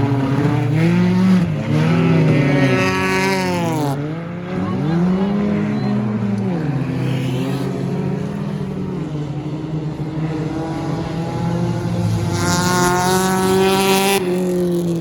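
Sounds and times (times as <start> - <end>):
loud buzzing car engine: 0.0 - 15.0
stock car engines running: 0.0 - 15.0.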